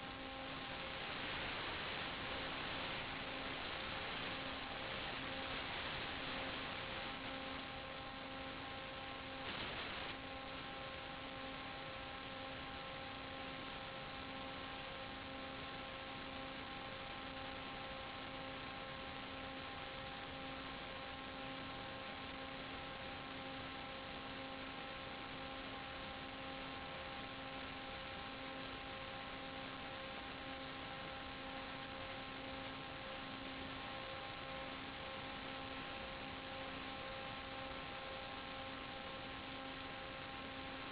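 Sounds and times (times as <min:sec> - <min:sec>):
constant hiss: 0:00.0 - 0:40.9
steady hum: 0:00.0 - 0:40.9.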